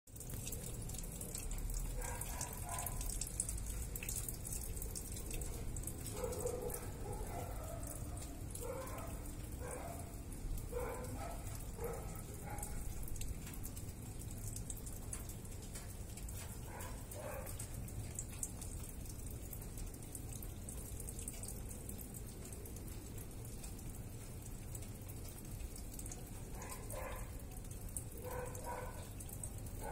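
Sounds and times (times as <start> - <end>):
drops and drips ticking: 0.1 - 29.9
rain falling: 0.1 - 29.9.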